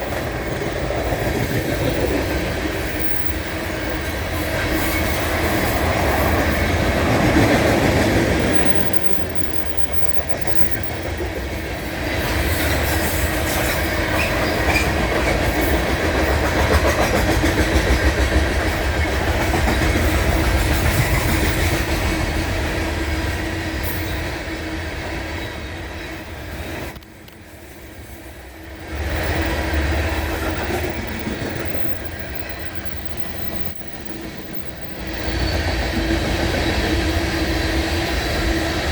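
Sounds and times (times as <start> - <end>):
freight train wheels rumbling on rails: 0.0 - 38.9.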